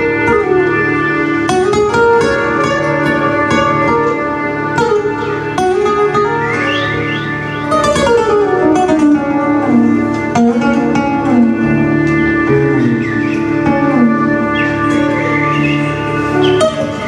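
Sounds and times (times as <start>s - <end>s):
acoustic guitar plucking: 0.0s - 17.0s
violin melodic runs: 0.0s - 17.0s.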